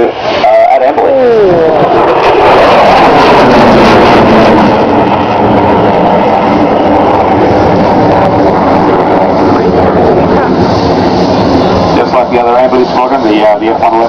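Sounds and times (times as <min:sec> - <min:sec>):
fighter jet flying by: 0:00.0 - 0:14.0.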